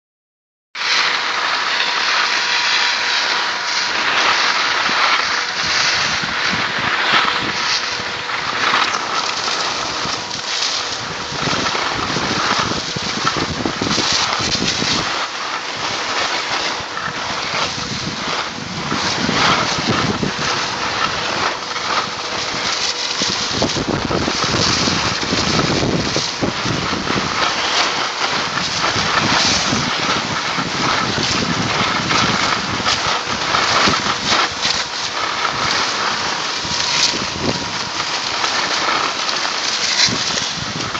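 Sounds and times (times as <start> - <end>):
skis scraping over snow: 0.8 - 40.9
wind rushing on microphone: 0.8 - 40.9.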